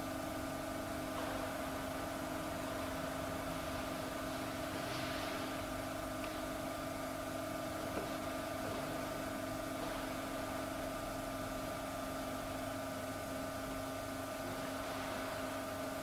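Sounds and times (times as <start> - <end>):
background hum with tones: 0.0 - 16.0.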